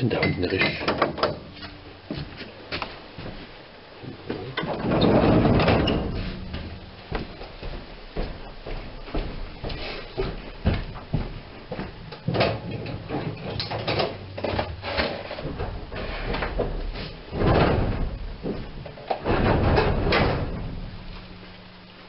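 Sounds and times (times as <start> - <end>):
knocks and clatter: 0.1 - 2.3, 4.2 - 21.3.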